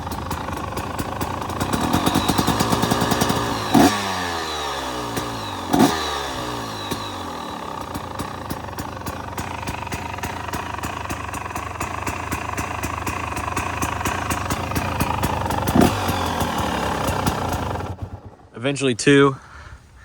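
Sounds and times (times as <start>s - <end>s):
two-stroke engine revving: 0.0s - 19.1s.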